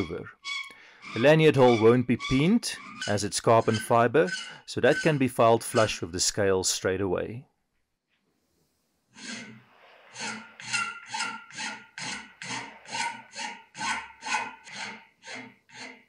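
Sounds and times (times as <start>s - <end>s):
hand file rasping: 0.0s - 6.2s, 9.2s - 16.0s.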